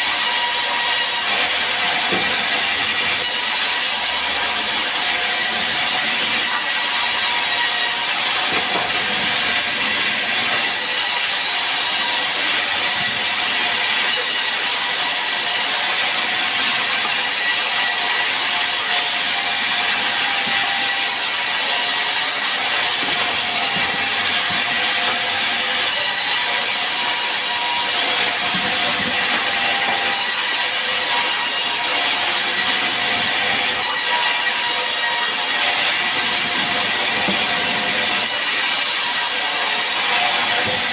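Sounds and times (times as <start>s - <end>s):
saw cutting wood: 0.0s - 40.9s.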